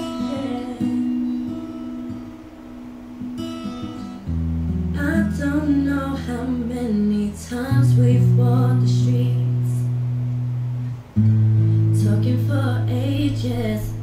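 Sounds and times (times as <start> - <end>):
song with guitar and voice: 0.0 - 14.0.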